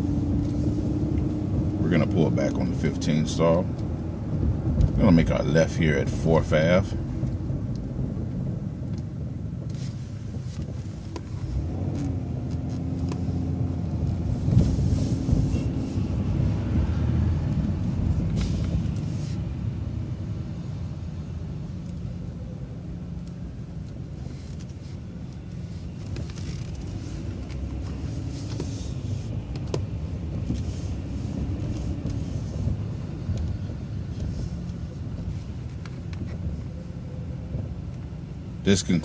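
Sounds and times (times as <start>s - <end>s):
bus engine rumbling: 0.0s - 39.0s.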